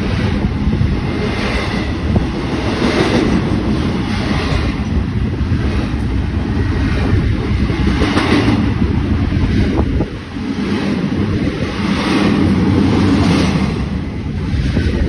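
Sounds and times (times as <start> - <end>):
train rumbling past: 0.0 - 15.0
wind buffeting microphone: 0.0 - 15.0.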